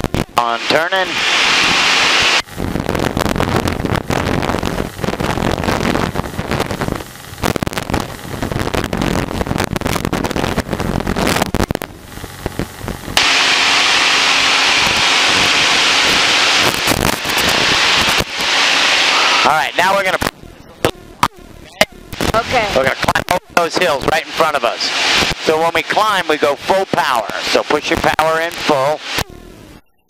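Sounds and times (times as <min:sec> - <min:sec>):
crackling and popping: 0:00.0 - 0:00.4, 0:02.3 - 0:13.4, 0:14.7 - 0:18.6, 0:19.8 - 0:30.0
airplane engine drone: 0:00.0 - 0:30.0.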